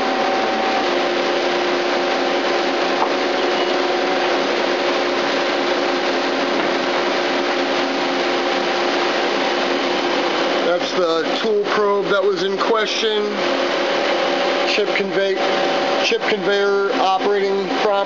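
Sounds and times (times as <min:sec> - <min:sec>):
lathe machine hiss and hum: 0:00.0 - 0:18.0.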